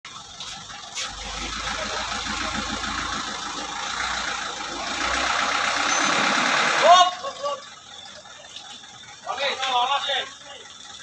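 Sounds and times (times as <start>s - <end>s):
truck engine rumbling: 0.0s - 11.0s
street noise hiss: 0.1s - 11.0s.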